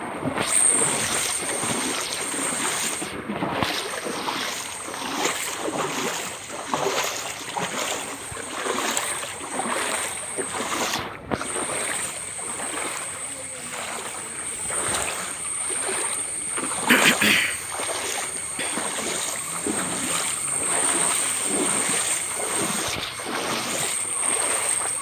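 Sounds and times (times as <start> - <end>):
splashing steps in water: 0.2 - 25.0.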